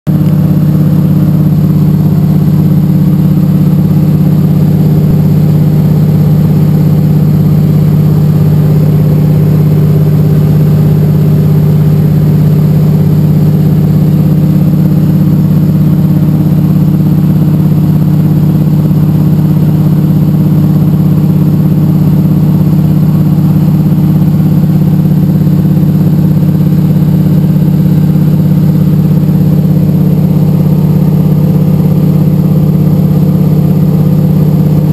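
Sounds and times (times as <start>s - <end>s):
propeller aircraft engine droning: 0.1s - 34.9s.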